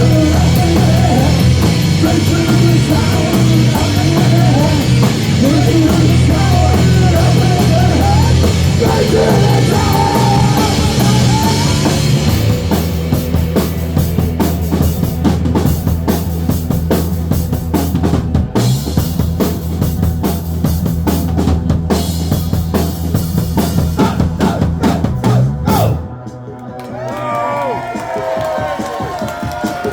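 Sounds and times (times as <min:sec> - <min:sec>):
low bass line: 0:00.0 - 0:26.2
heavy drums: 0:00.0 - 0:29.9
live rock band playing: 0:00.0 - 0:29.9.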